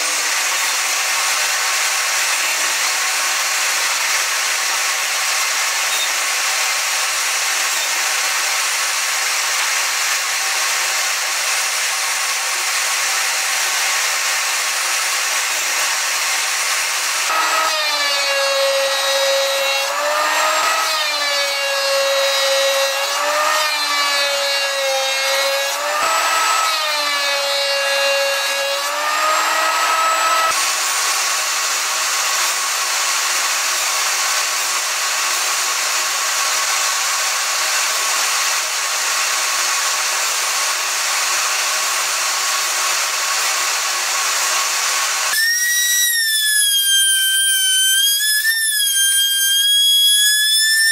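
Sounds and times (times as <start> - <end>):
power tool motor whining on wood: 0.0 - 35.7, 39.1 - 50.9.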